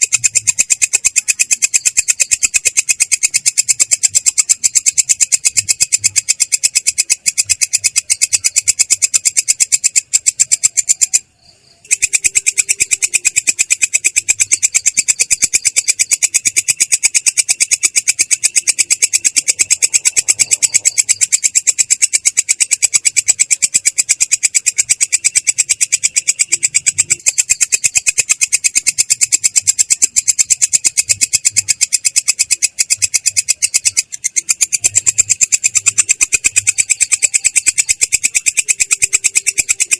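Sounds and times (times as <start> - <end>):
katydid stridulating: 0.0 - 39.9.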